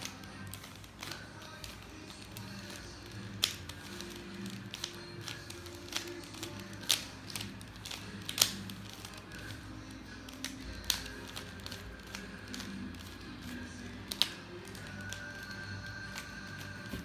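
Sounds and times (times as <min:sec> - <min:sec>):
faint background music: 0:00.0 - 0:17.0
plastic puzzle cube clicking: 0:00.0 - 0:17.0.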